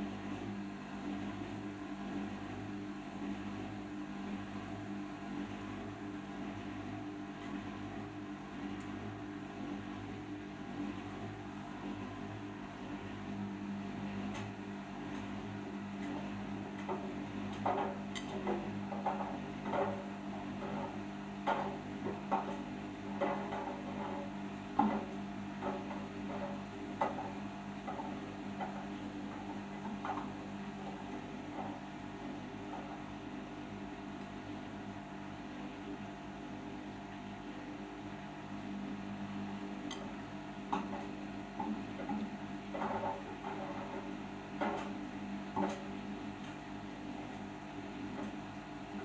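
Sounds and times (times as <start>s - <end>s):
washing machine spinning: 0.0s - 49.0s.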